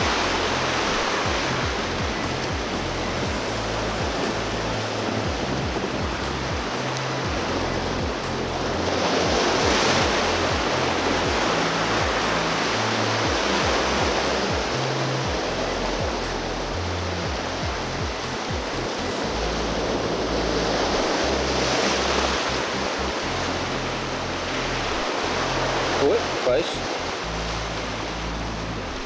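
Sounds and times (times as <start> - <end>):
background music with bass line: 0.0 - 29.0
waves breaking on rocks: 0.0 - 29.0.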